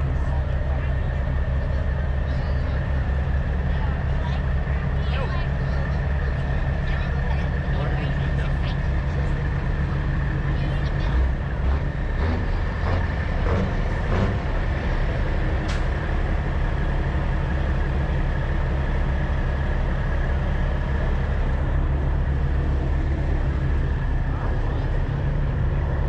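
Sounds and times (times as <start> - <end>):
diesel truck engines idling: 0.0 - 26.0.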